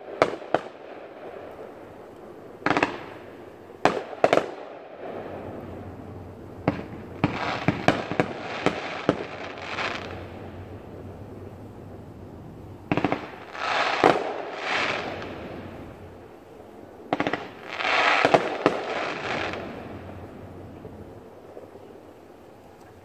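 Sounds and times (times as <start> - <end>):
fireworks bangs and crackling: 0.0 - 22.6.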